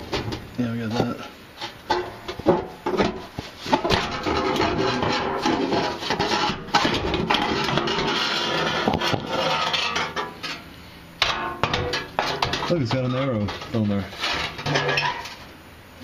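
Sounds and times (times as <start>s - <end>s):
metal heat shield scraping: 0.0s - 15.5s.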